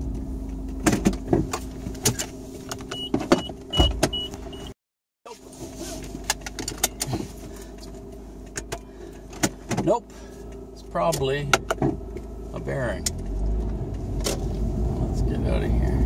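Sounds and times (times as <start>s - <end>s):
car interior rumble and hum: 0.0s - 4.7s, 5.3s - 16.0s.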